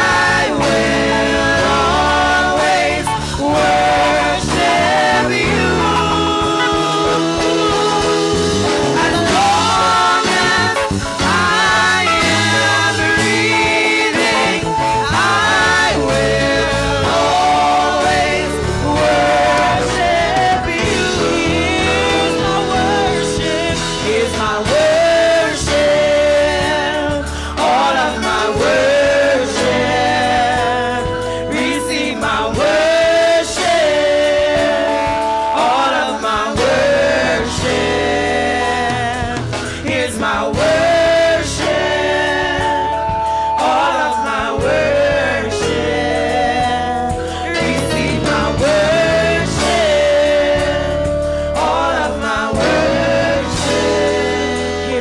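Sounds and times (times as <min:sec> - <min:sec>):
live band with drums: 0:00.0 - 0:55.0
women singing: 0:00.0 - 0:55.0.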